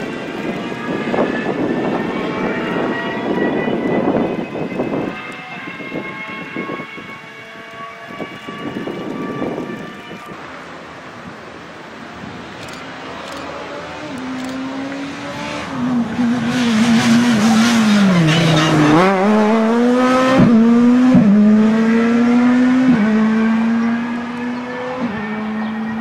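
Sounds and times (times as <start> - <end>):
rally car engine revving: 0.1 - 8.6, 12.9 - 26.0.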